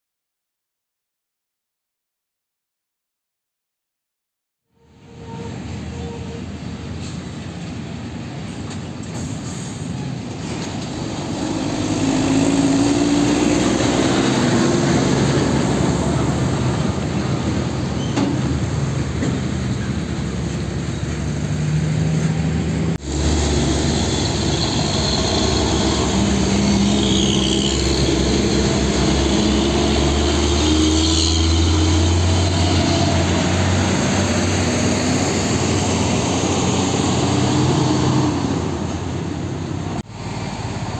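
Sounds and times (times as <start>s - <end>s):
truck engine passing: 7.0s - 40.9s.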